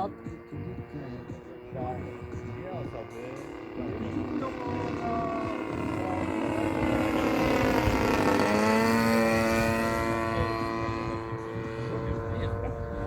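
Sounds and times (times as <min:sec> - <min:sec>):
model airplane engine flying past: 0:00.0 - 0:13.0.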